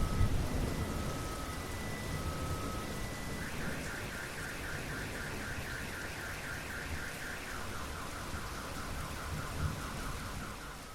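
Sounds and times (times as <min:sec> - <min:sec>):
steady rain: 0:00.0 - 0:10.9.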